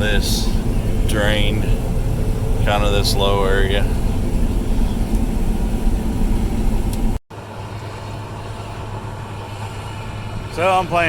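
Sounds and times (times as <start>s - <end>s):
engine drone inside cab: 0.0s - 11.0s
quiet engine hum: 0.0s - 11.0s.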